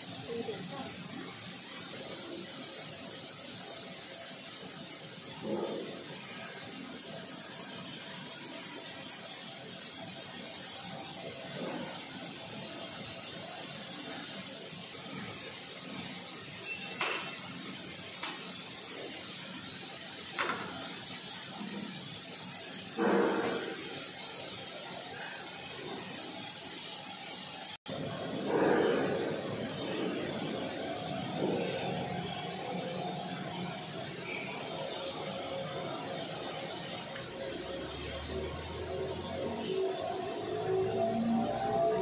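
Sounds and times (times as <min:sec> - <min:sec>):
air compressor running: 0:00.0 - 0:42.0.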